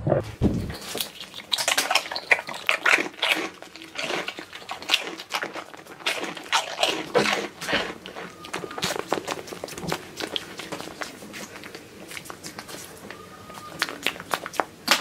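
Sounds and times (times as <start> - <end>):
goat crunching corn chips: 0.5 - 15.0.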